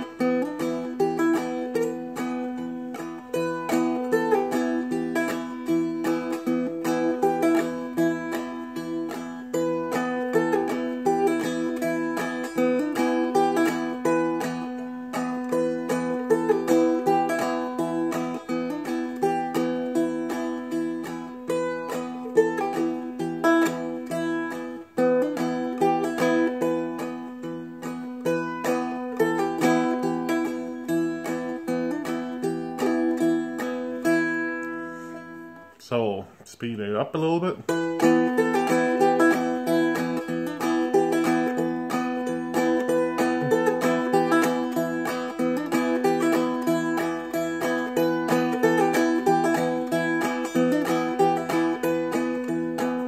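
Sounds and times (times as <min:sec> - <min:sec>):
plucked dulcimer melody: 0:00.0 - 0:35.7, 0:37.7 - 0:53.0.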